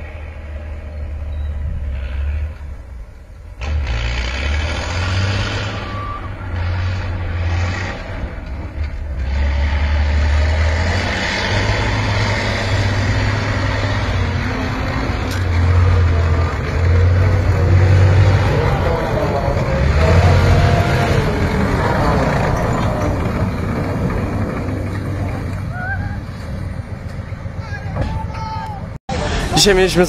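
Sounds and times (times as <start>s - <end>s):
heavy vehicle engine rumbling: 0.0s - 30.0s.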